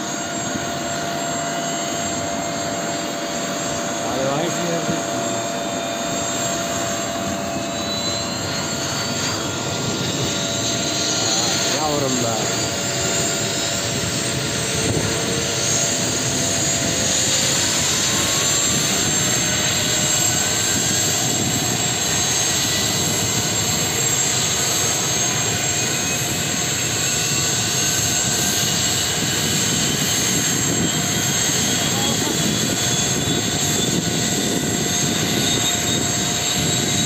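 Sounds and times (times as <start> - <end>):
helicopter engine and rotor noise: 0.0 - 37.0
helicopter turbine whine: 0.0 - 37.0.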